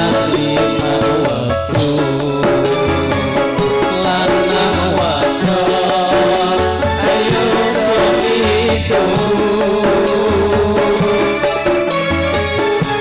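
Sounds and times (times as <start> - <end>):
electronic keyboard melody: 0.0 - 13.0
hand drums: 0.0 - 13.0
jingling percussion beat: 0.0 - 13.0.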